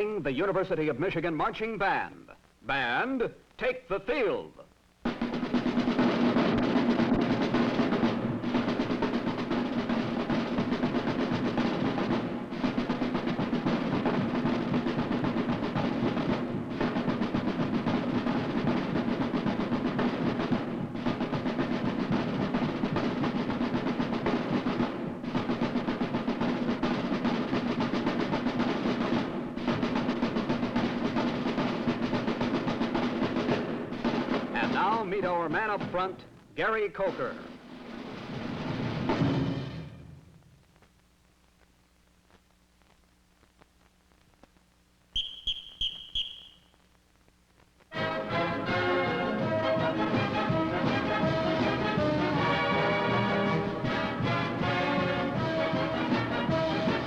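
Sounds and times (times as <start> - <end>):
snare drums: 0.0 - 41.1, 42.3 - 47.0, 47.6 - 57.0.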